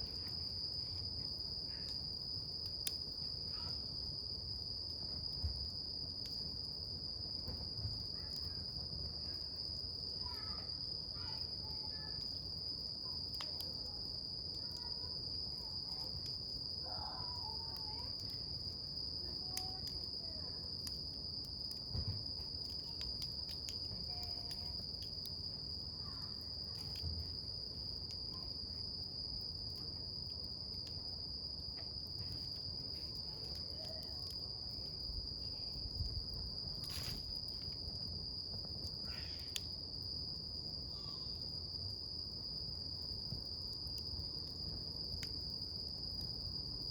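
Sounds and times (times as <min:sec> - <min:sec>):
campfire crackling and popping: 0:00.0 - 0:07.4, 0:12.2 - 0:40.6, 0:42.5 - 0:46.9
crickets trilling: 0:00.0 - 0:46.9.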